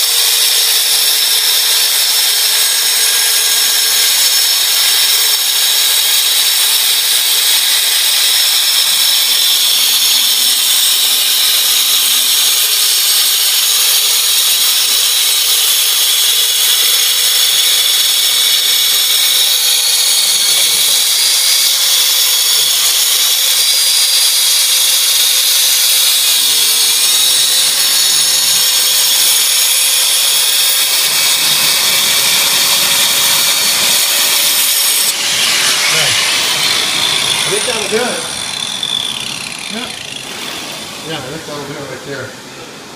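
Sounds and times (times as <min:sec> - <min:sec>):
power saw grinding stone: 0:00.0 - 0:42.2
vacuums running: 0:00.0 - 0:42.9.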